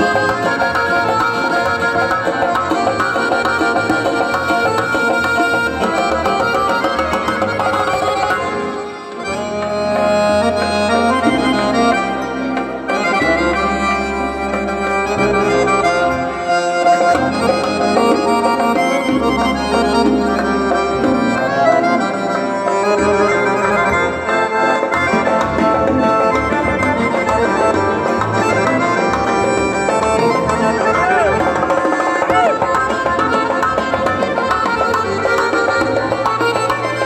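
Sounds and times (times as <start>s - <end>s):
keyboard: 0.0s - 37.0s
reedy accordion-like melody: 0.0s - 37.0s.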